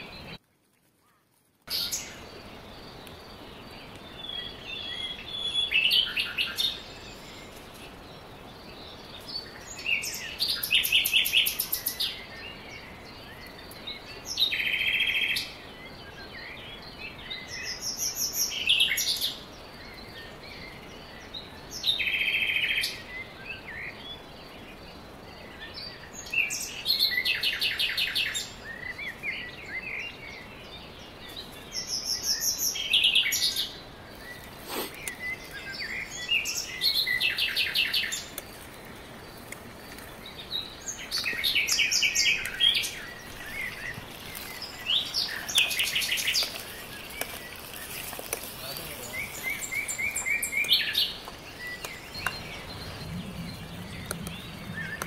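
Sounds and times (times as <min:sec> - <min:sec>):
steady faint hiss: 0:00.0 - 0:55.0
songbirds trilling: 0:01.7 - 0:55.0.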